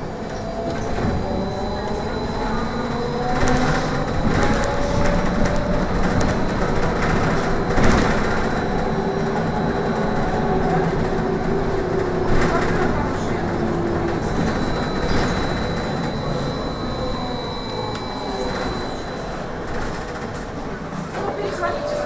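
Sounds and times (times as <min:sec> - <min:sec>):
electric traction drive whine: 0:00.0 - 0:21.8.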